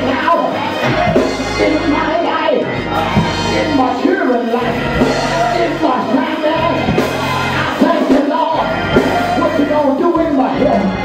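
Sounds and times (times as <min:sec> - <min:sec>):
amplified voice singing: 0:00.0 - 0:11.0
low bass notes: 0:00.0 - 0:11.0.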